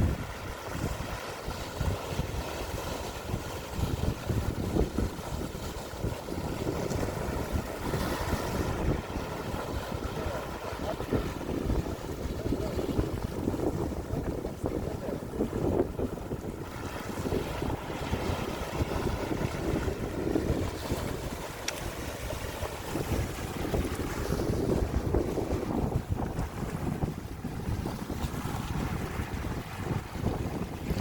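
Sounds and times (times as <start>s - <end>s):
sea waves washing: 0.0s - 31.0s
wind buffeting microphone: 0.0s - 31.0s.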